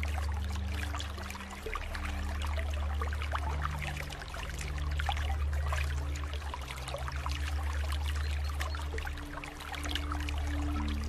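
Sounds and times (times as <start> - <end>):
low musical drone: 0.0 - 11.0
water dripping and trickling: 0.0 - 11.0.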